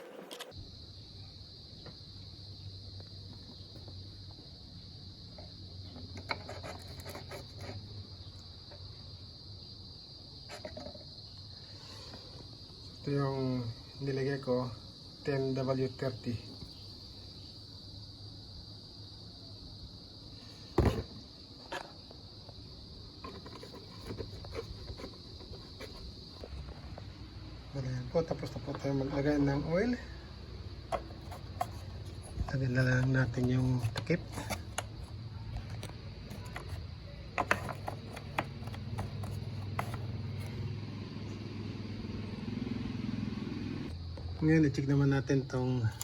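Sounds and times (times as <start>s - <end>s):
crickets chirring: 0.0s - 46.0s.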